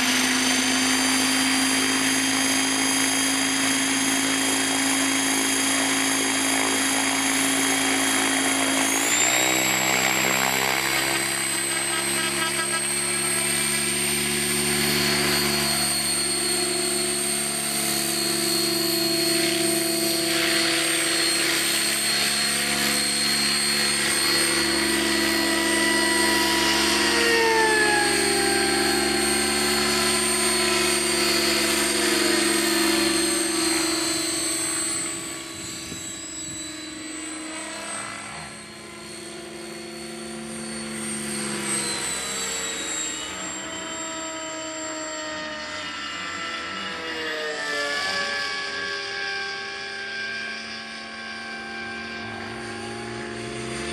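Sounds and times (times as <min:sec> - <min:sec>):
high motor whine: 0:00.0 - 0:53.9
rc helicopter rotor hum: 0:00.0 - 0:53.9.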